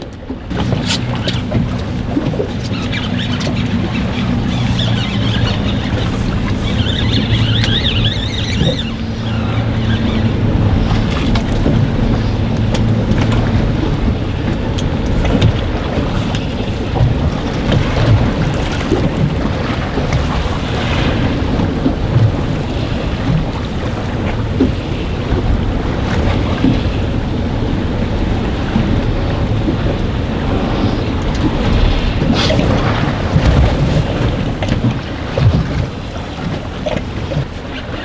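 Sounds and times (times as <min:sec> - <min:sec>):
choppy water: 0:00.0 - 0:38.0
waves knocking against hull: 0:00.0 - 0:38.0
wind buffeting microphone: 0:00.0 - 0:38.0.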